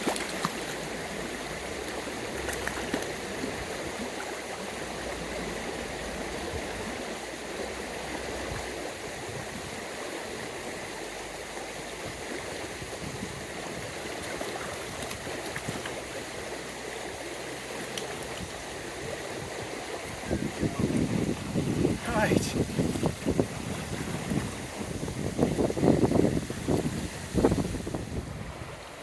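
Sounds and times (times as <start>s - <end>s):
stream running over rocks: 0.0s - 29.0s.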